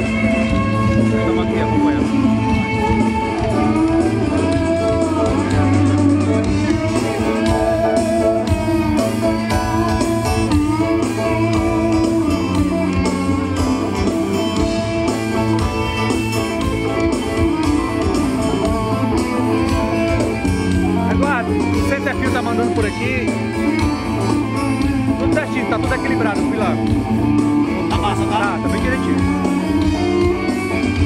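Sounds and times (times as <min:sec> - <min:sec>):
live band music with guitar: 0:00.0 - 0:31.0.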